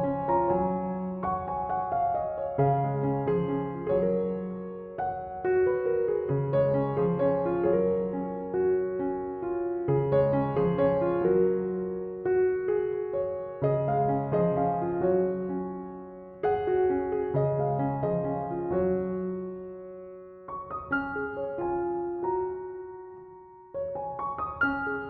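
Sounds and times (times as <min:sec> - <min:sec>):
soft piano music: 0:00.0 - 0:25.0.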